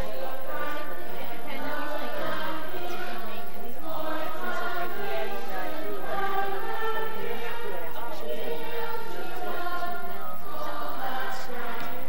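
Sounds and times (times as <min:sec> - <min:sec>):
group of voices singing: 0:00.0 - 0:12.0.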